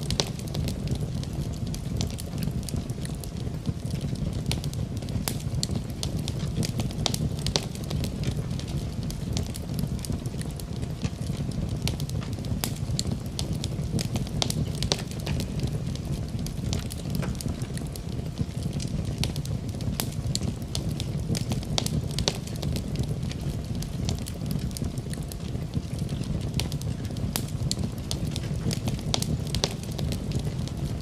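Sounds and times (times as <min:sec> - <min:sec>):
fire crackling in fireplace: 0:00.0 - 0:31.0
low steady rumble: 0:00.0 - 0:31.0.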